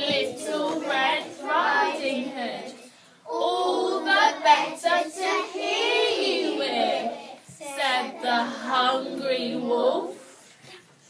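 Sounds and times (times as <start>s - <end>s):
children singing in unison: 0.0s - 10.2s.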